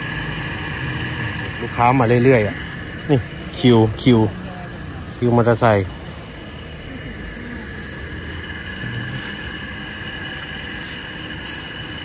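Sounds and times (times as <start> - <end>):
background street hum: 0.0 - 12.0
steady high-pitched tones: 0.0 - 12.0.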